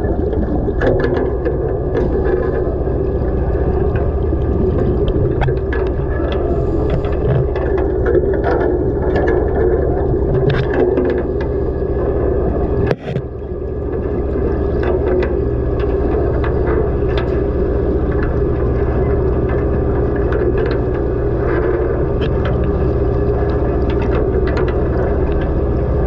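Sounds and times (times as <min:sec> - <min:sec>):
clicks and crackles: 0:00.0 - 0:26.0
low underwater machinery hum: 0:00.0 - 0:26.0.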